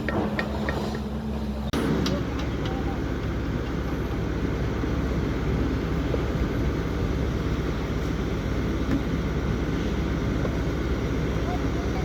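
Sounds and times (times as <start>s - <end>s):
heavy machinery engine running: 0.0s - 12.0s.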